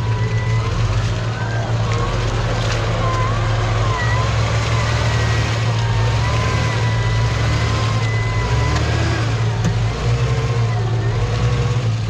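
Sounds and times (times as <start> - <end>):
off-road vehicle engine straining: 0.0 - 12.0.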